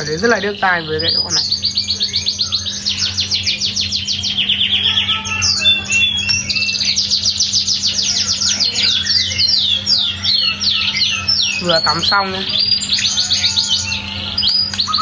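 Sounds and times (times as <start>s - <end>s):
songbird whistling trills: 0.0s - 15.0s
steady low hum: 0.0s - 15.0s.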